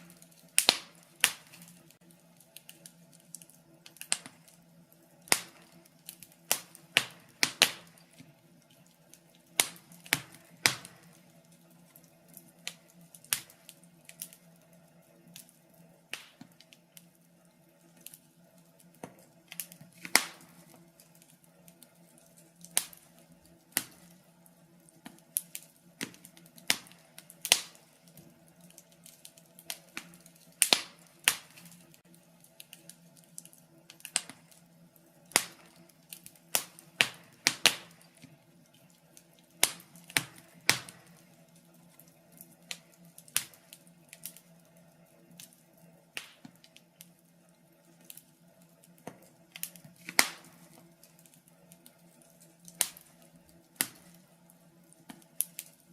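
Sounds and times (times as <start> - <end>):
faint steady hum: 0.0 - 55.9
wood fire crackling: 0.0 - 55.9.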